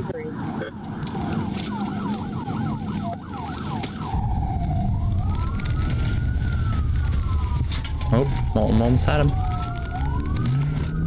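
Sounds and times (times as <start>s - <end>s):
engine and road noise rumble: 0.0s - 11.0s
police siren yelping and wailing: 0.0s - 11.0s.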